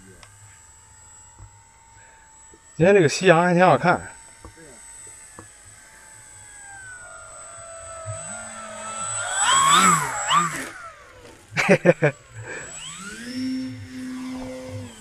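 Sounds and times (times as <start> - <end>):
model airplane electric motor whining: 0.0 - 15.0.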